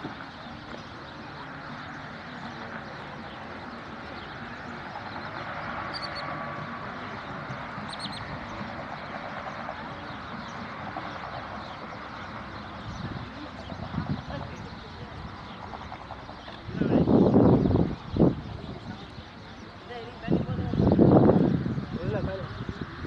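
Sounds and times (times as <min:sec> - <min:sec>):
high bird calls: 0:00.0 - 0:21.2
wind: 0:00.0 - 0:23.0.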